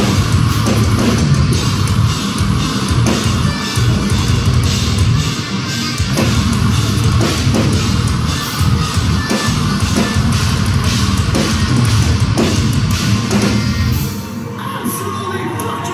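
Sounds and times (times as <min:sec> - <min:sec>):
distorted electric guitars: 0:00.0 - 0:15.9
metalcore band playing live: 0:00.0 - 0:15.9.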